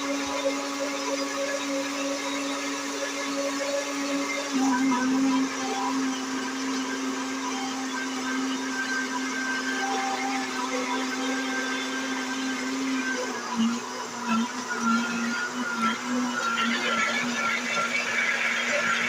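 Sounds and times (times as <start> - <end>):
electric blender running: 0.0 - 19.0.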